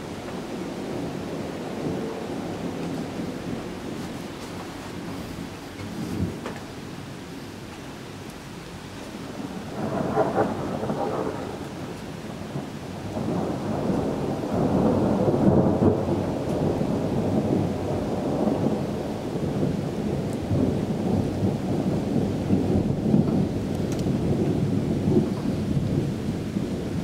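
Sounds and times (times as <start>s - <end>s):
thunder rumbling: 0.0s - 7.2s, 9.0s - 27.0s
rain falling: 0.0s - 27.0s.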